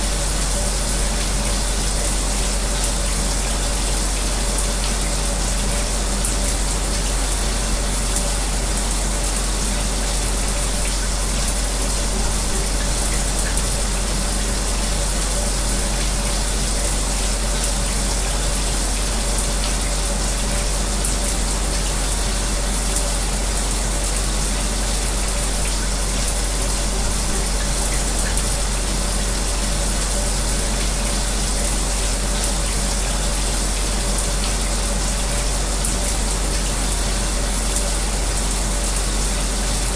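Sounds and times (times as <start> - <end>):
fan humming: 0.0 - 39.9
shower running: 0.0 - 39.9.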